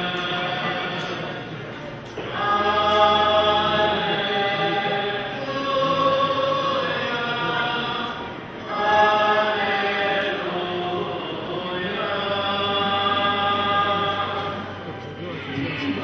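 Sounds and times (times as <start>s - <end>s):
choir singing slow hymn: 0.0s - 16.0s.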